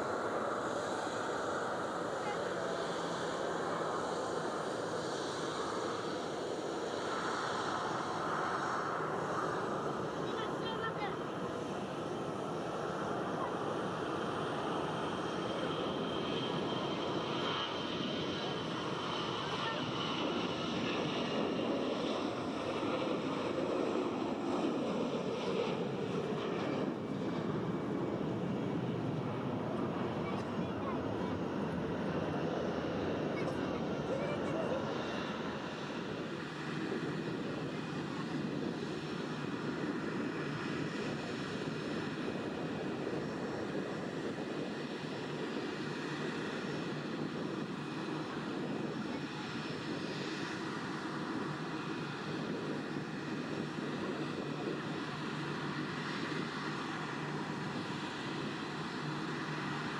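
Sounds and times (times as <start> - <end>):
jet engines rushing: 0.0 - 59.9.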